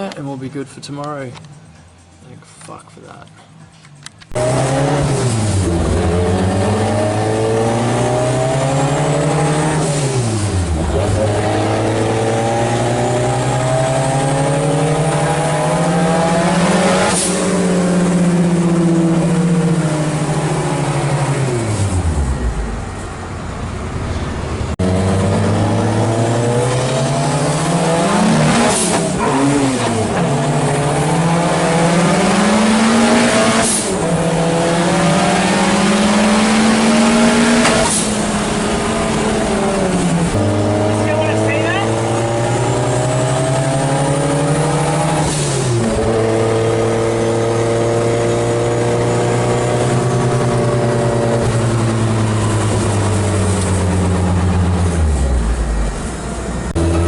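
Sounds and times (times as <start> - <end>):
race car engine revving: 4.3 - 57.0.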